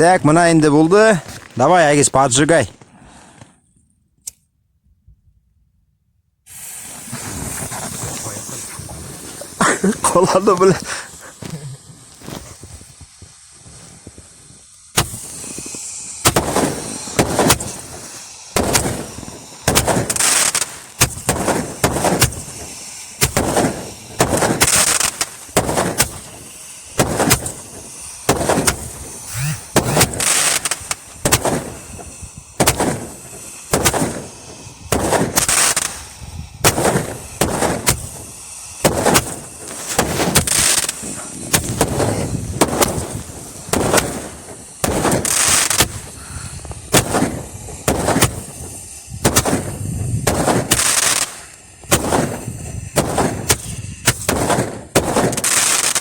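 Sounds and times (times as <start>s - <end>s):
fireworks crackling burst: 0.0s - 3.6s, 6.4s - 56.0s
fireworks bangs: 6.5s - 56.0s.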